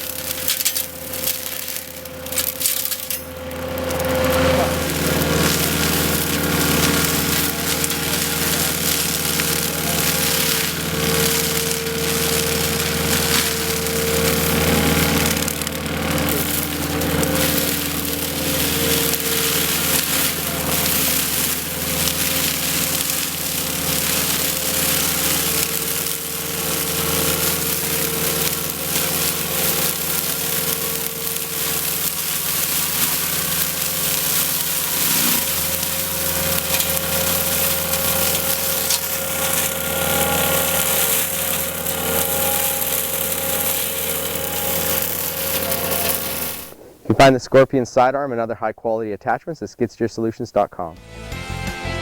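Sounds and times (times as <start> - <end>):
crackling and rattling material: 0.0 - 47.2
skid steer engine drone: 0.0 - 48.0.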